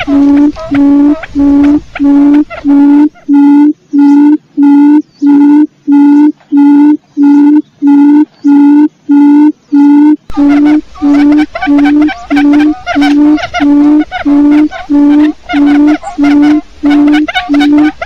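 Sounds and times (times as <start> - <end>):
quail hooting calls: 0.0 - 9.4, 10.3 - 18.0.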